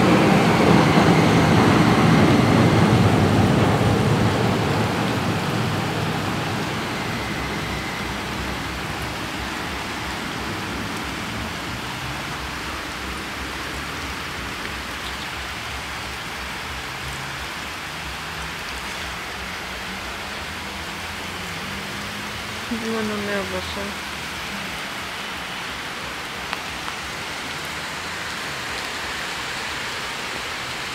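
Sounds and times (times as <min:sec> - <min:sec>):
heavy rain on water: 0:00.0 - 0:30.9.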